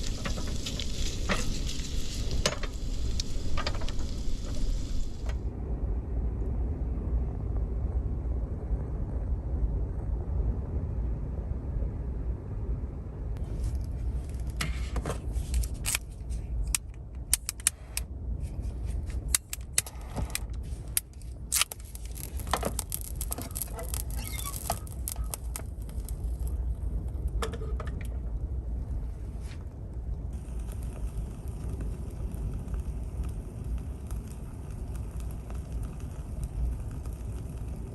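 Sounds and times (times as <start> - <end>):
strong wind rumbling: 0.0 - 37.9.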